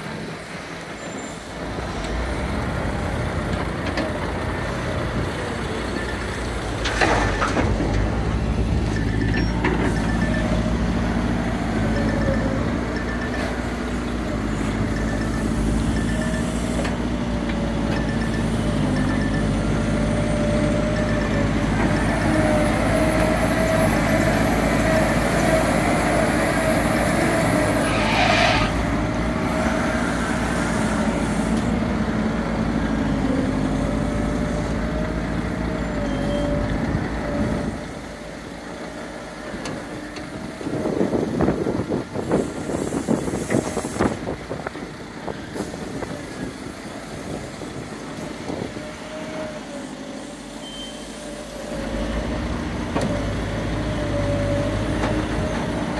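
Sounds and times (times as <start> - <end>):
excavator diesel engine: 0.0 - 55.9.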